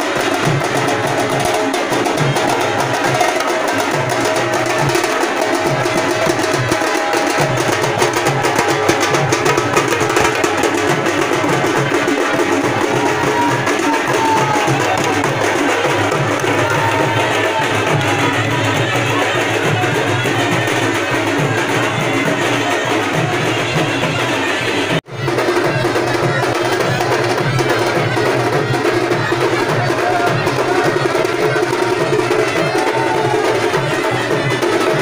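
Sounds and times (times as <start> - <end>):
rhythmic drumming with music: 0.0 - 35.0.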